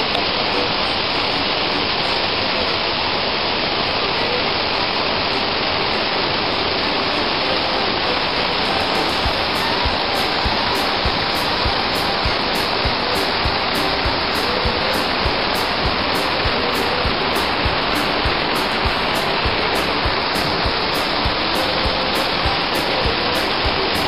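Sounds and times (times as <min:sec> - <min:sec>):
waterfall rushing onto rocks: 0:00.0 - 0:24.0.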